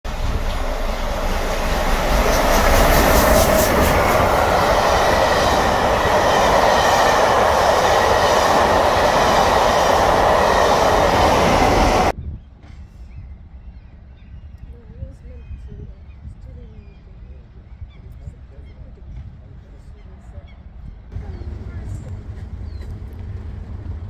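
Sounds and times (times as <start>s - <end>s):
train coaches rumbling on rails: 0.1s - 13.9s, 14.7s - 24.0s.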